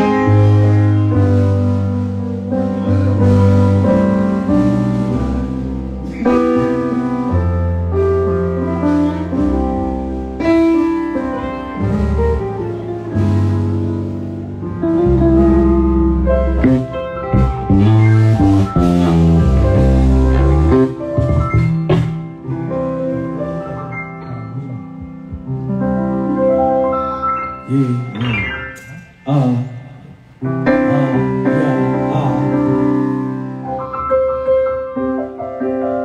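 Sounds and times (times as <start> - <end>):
keyboard playing piano chords: 0.0 - 36.0.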